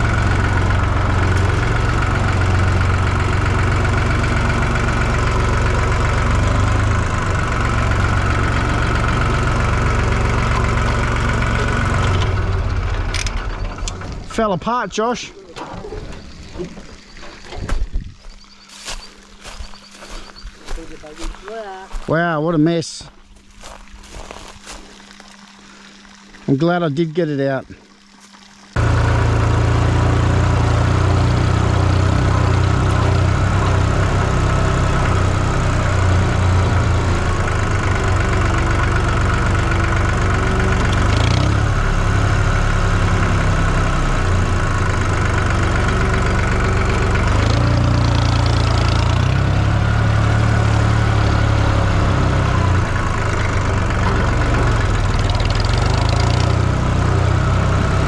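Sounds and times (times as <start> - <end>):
engine running with low rumble: 0.0 - 58.0.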